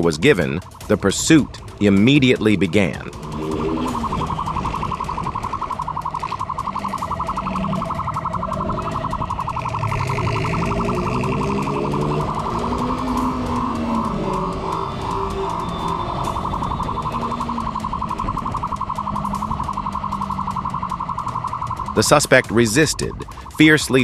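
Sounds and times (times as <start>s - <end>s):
police siren pulsing: 0.0s - 24.0s
vehicle engine: 0.6s - 23.6s.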